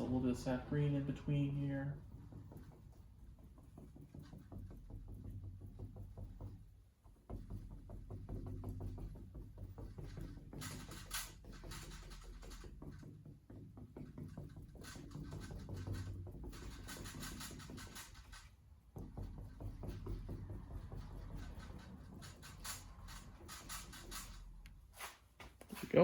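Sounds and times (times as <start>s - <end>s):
paintbrush scratching on canvas: 0.0s - 8.0s, 8.9s - 26.0s.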